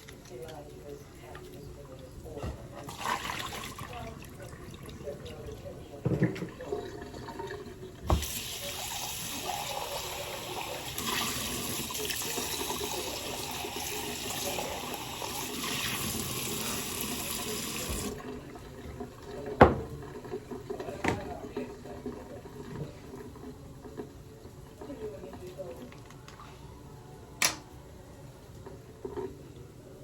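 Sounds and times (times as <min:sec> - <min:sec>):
kitchen tap running: 0:00.0 - 0:26.1.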